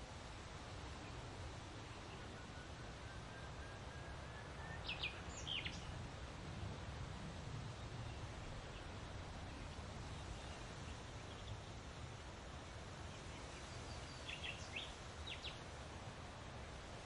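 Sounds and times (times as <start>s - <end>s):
wind with low rumble: 0.0s - 17.0s.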